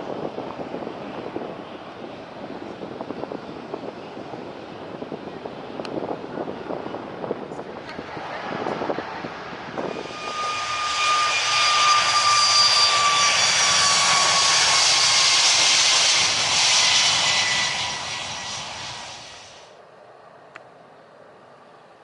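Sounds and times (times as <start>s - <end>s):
jet airliner passing overhead: 0.0s - 20.4s.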